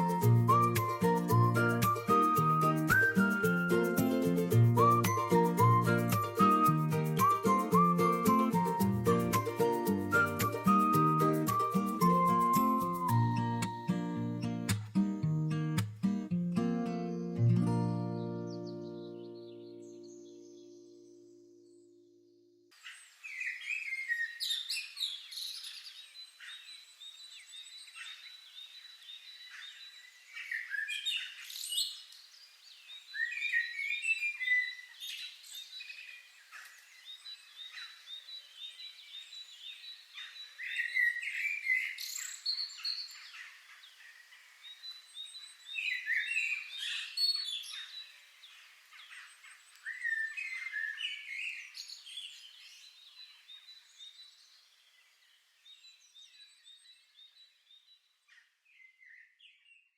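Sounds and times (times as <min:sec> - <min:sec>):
songbirds chirping and singing: 0:00.0 - 0:15.8, 0:16.5 - 0:59.9.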